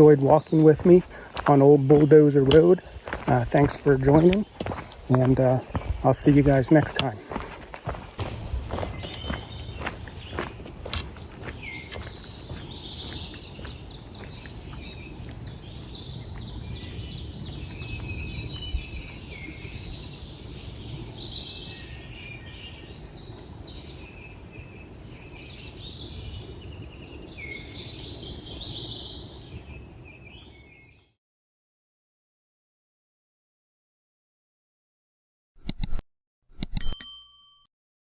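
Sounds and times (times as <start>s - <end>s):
songbirds singing: 0.0s - 31.2s.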